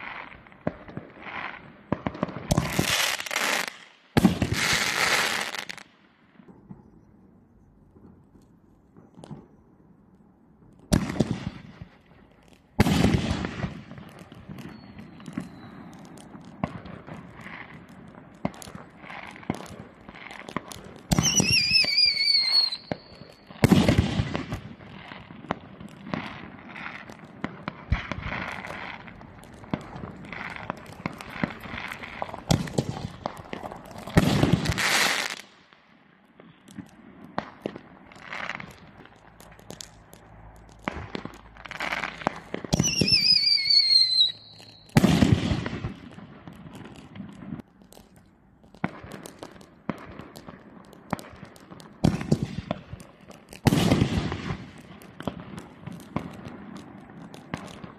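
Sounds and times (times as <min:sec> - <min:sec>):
fireworks bursting: 0:00.0 - 0:09.8, 0:10.6 - 0:57.9
fireworks crackling: 0:00.0 - 0:57.9.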